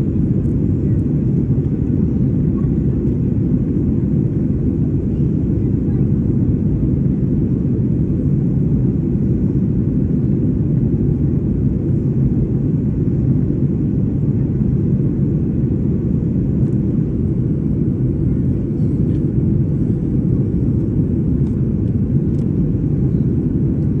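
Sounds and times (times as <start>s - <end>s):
airplane engines rumbling: 0.0s - 24.0s.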